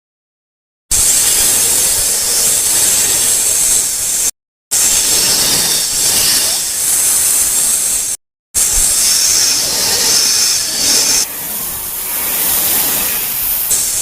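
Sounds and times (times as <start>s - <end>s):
snake hissing: 0.9s - 14.0s.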